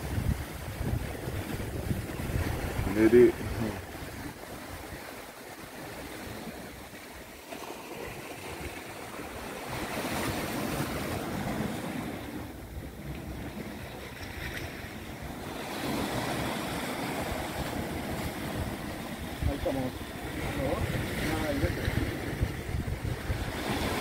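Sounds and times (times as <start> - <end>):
wind on microphone: 0.0 - 7.2, 7.9 - 24.0
sea waves washing against rocks: 0.0 - 24.0.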